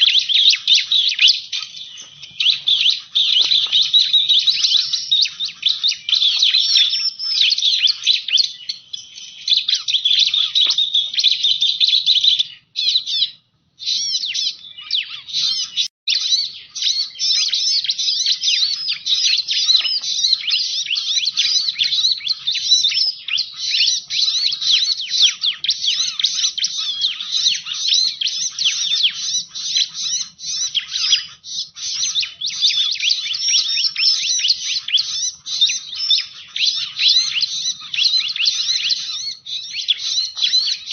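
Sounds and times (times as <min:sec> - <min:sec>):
bird chirps and trills: 0:00.0 - 0:40.9.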